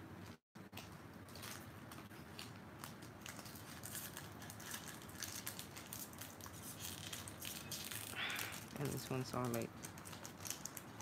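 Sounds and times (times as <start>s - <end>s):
foil wrapper crinkling: 0.7s - 11.0s.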